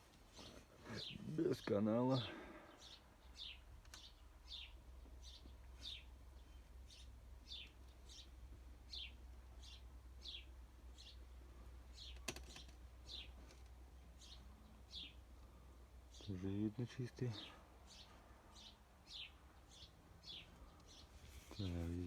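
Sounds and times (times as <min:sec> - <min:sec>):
faint low hum: 0:00.2 - 0:22.0
small bird chirping: 0:02.7 - 0:22.0.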